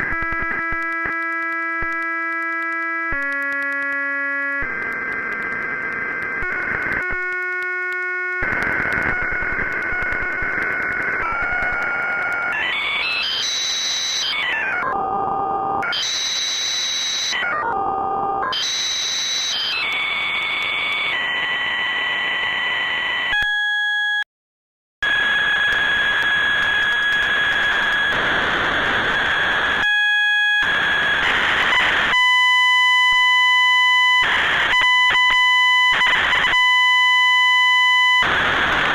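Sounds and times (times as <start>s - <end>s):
harsh buzzing electronic tones: 0.0s - 24.2s, 25.0s - 38.9s.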